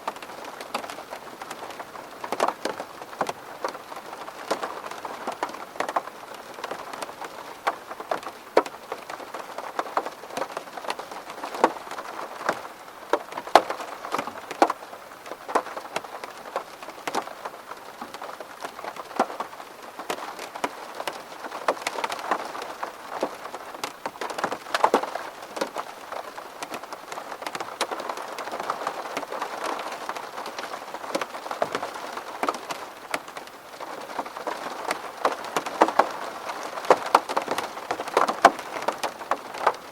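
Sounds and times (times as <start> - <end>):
rain hiss: 0.0 - 39.9
raindrops hitting window: 0.0 - 39.9.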